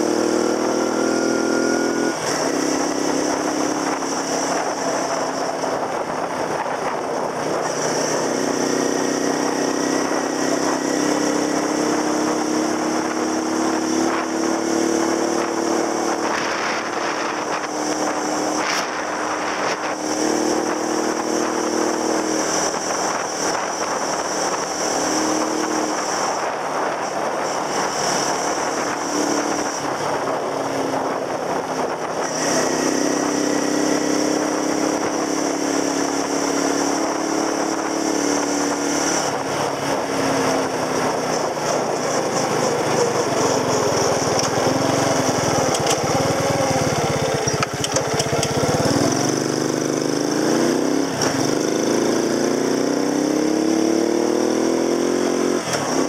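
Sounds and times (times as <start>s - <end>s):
scooter engine running: 0.0s - 56.0s
wind noise: 0.0s - 56.0s.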